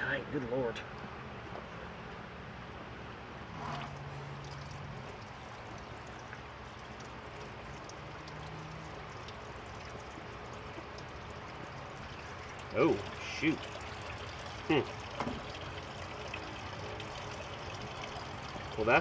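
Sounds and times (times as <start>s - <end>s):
fuel trickling and pouring: 3.5s - 19.0s.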